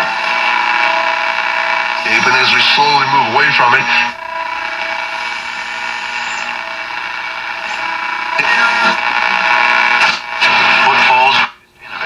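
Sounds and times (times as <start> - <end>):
radio static hiss: 0.0 - 12.0
steady radio tones: 0.0 - 12.0.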